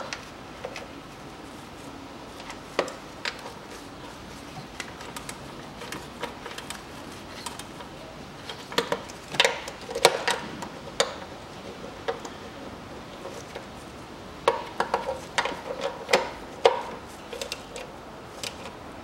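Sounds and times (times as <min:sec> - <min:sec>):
clicks and knocks of plastic and metal: 0:02.4 - 0:13.7, 0:14.4 - 0:18.8.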